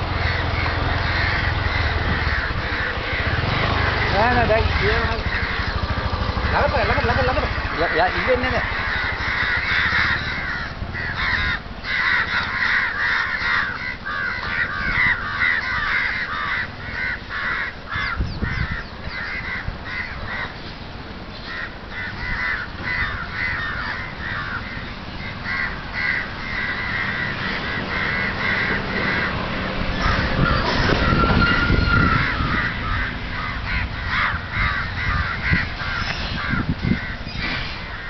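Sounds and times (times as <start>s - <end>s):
crows cawing: 0.0s - 20.6s, 21.3s - 38.0s.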